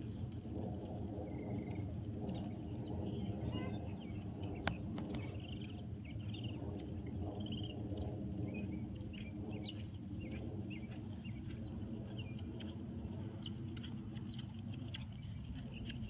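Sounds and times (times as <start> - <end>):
steady low rumble: 0.0 - 16.0
small birds chirping: 1.2 - 16.0.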